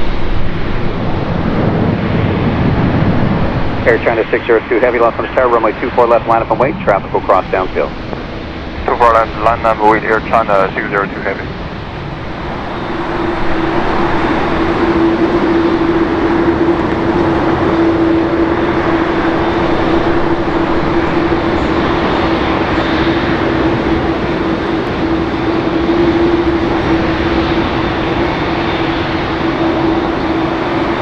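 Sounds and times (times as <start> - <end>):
jet engines at taxi thrust: 0.0 - 31.0.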